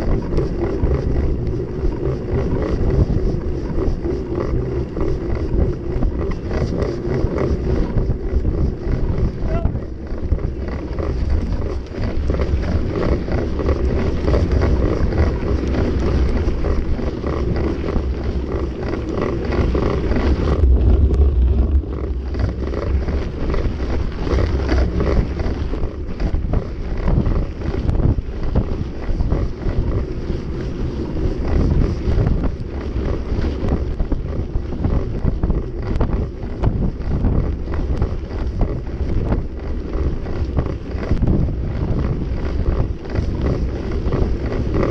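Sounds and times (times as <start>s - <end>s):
bike rattling over bumps: 0.0s - 44.9s
bike tyre rumble on gravel: 0.0s - 44.9s
wind buffeting microphone: 0.0s - 44.9s.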